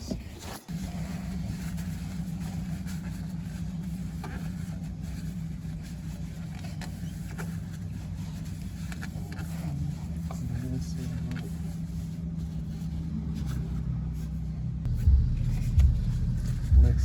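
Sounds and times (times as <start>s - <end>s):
low motor hum: 0.6s - 17.0s.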